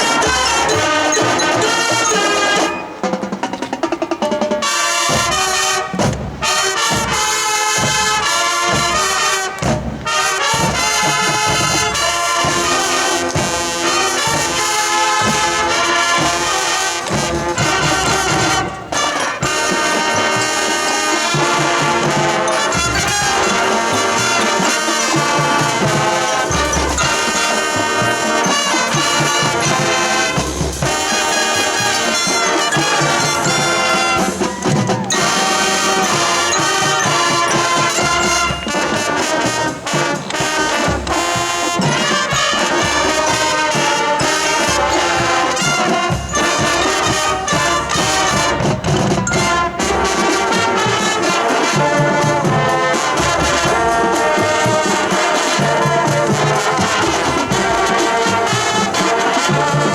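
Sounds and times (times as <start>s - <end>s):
marching band brass: 0.0s - 59.9s.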